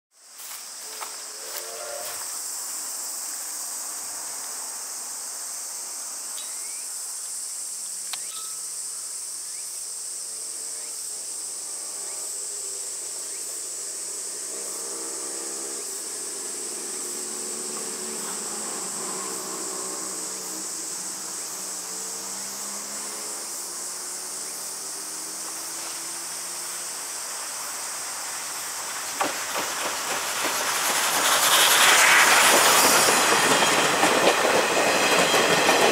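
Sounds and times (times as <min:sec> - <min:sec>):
insects droning: 0:00.1 - 0:35.9
steam locomotive approaching: 0:00.4 - 0:06.0, 0:10.0 - 0:35.9.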